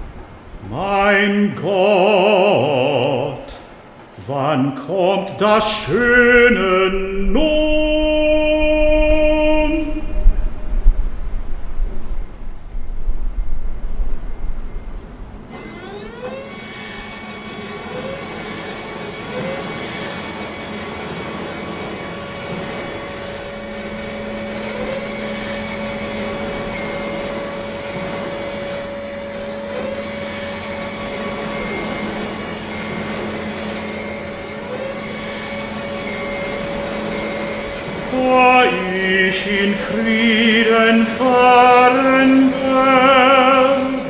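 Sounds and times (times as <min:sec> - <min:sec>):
hydraulic machine whine and hum: 0:00.0 - 0:44.0
rising whine: 0:00.0 - 0:44.0.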